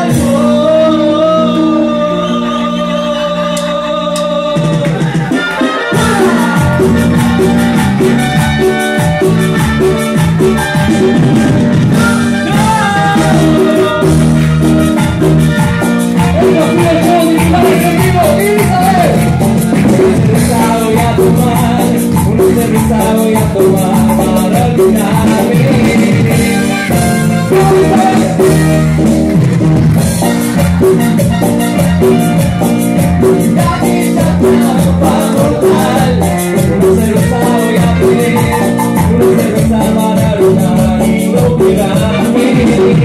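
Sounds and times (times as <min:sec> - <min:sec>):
drums over a dance beat: 0:00.0 - 0:00.8, 0:04.2 - 0:43.0
electric guitar: 0:00.0 - 0:43.0
keyboard: 0:00.0 - 0:43.0.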